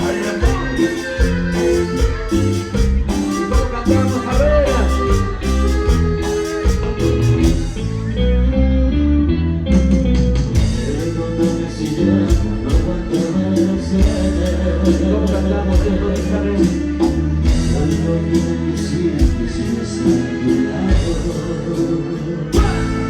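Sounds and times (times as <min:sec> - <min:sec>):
high percussion beat: 0:00.0 - 0:07.9, 0:10.4 - 0:23.0
live band playing instrumental: 0:00.0 - 0:23.0
steady bass: 0:00.0 - 0:23.0.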